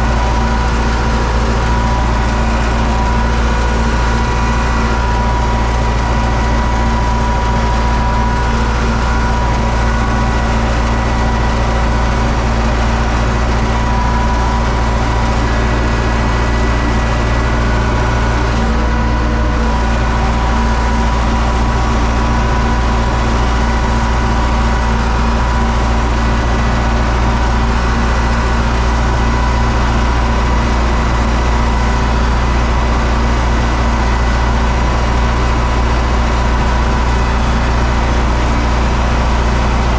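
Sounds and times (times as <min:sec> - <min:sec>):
steady whine: 0:00.0 - 0:39.9
tractor diesel engine running: 0:00.0 - 0:39.9.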